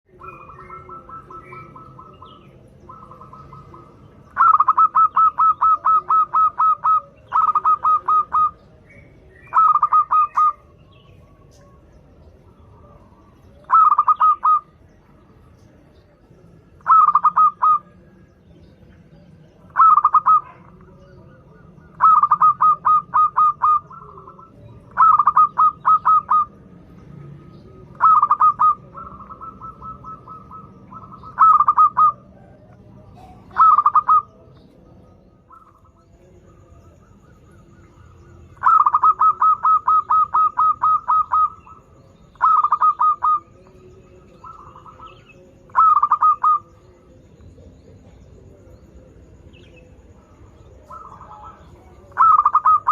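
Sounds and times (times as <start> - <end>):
dove cooing: 0.1 - 14.8, 16.7 - 18.1, 18.7 - 26.7, 27.7 - 48.7, 49.5 - 52.9.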